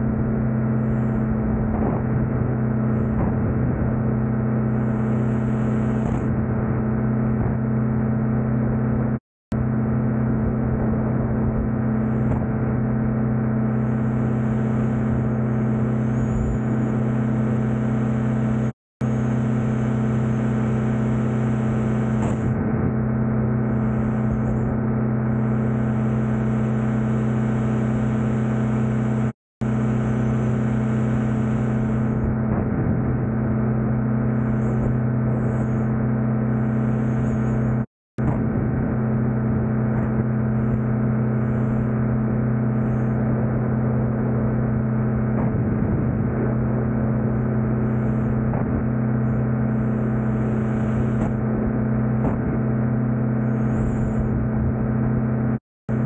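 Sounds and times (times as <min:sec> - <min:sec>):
ultralight engine droning: 0:00.0 - 0:56.0.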